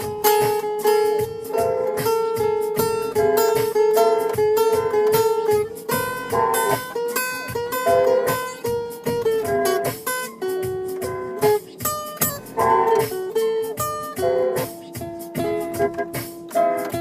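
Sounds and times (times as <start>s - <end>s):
acoustic guitar plucked melody: 0.0s - 17.0s.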